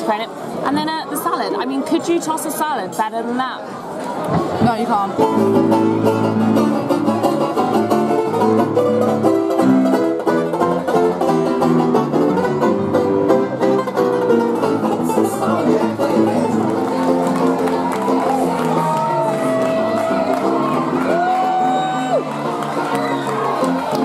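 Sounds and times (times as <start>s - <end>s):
banjo playing bluegrass: 4.6s - 24.0s.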